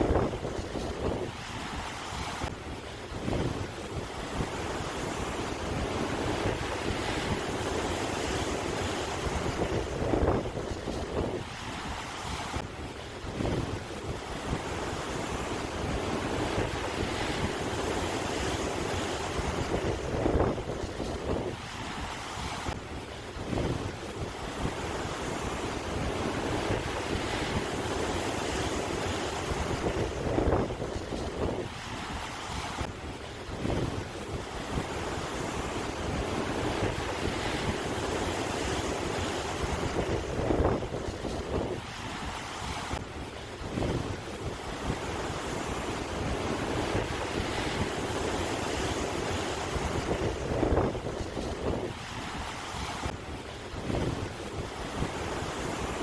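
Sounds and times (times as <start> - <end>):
ocean waves washing ashore: 0.0 - 56.0
wind buffeting microphone: 0.0 - 56.0.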